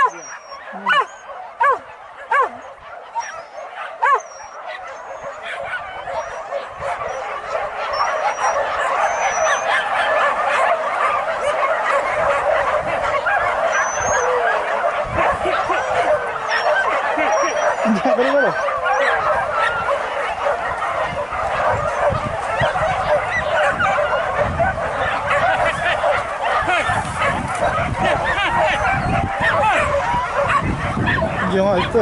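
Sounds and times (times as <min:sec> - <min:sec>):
dogs yelping and baying: 0:00.0 - 0:32.0.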